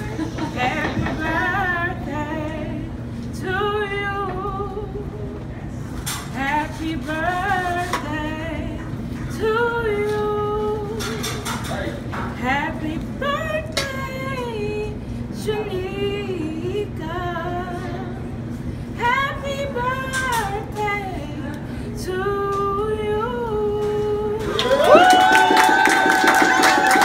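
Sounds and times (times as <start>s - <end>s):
woman singing: 0.0s - 5.6s, 6.3s - 11.1s, 12.4s - 18.4s, 19.0s - 25.0s
steady low hum: 0.0s - 24.9s.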